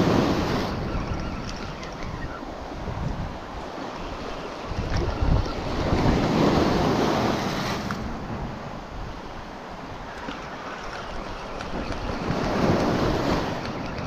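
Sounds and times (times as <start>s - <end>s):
sea waves breaking on shore: 0.0s - 14.0s
wind rumbling on microphone: 0.0s - 14.0s.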